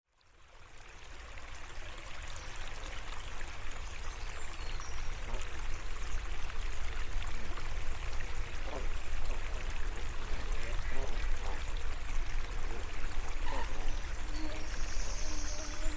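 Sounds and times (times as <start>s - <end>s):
stream water trickling: 0.1s - 15.9s.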